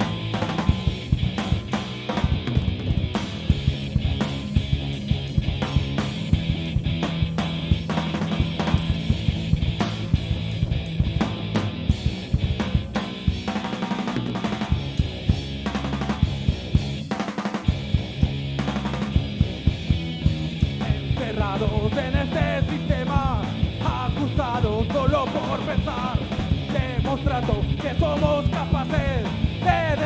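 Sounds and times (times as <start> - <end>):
drum kit beat: 0.0 - 30.0
punk rock band playing: 0.0 - 30.0.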